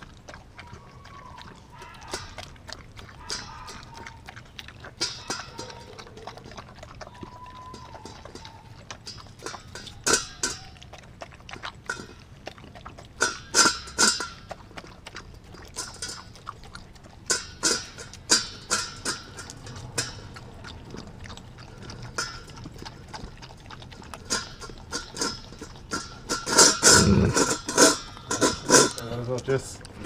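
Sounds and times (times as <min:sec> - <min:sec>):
dog chewing and lapping: 0:00.0 - 0:30.0
teeth knocking metal bowl: 0:01.2 - 0:10.9, 0:13.2 - 0:15.0, 0:15.6 - 0:29.4.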